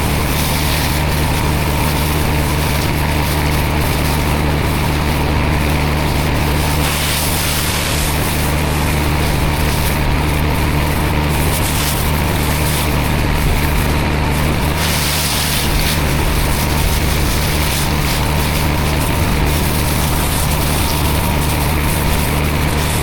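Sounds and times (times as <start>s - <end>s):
high-pressure water spray hiss: 0.0s - 23.0s
pressure washer engine running: 0.0s - 23.0s.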